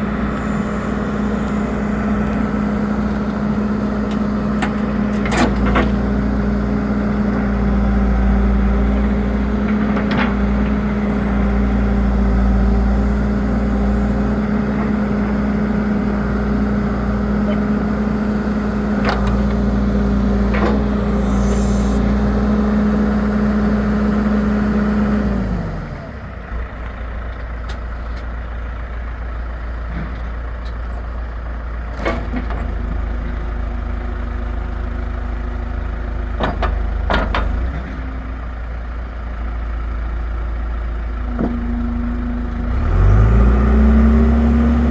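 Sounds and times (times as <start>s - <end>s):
backhoe diesel engine running: 0.0s - 44.9s.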